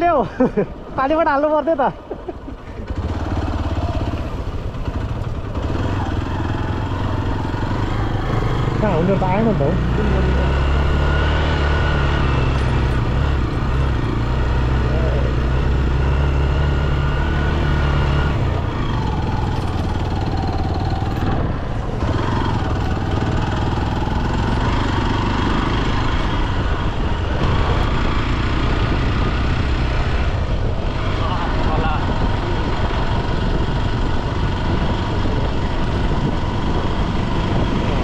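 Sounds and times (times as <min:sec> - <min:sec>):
motorcycle engine running: 0:00.7 - 0:38.0.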